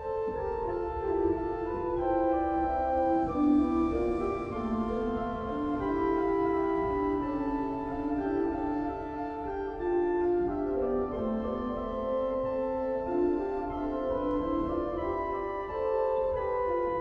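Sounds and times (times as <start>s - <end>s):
pipe organ playing slow music: 0.0s - 17.0s.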